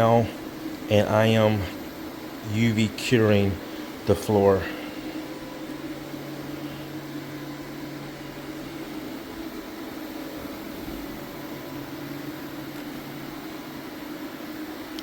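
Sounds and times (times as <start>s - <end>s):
floor curing machine humming: 0.0s - 15.0s.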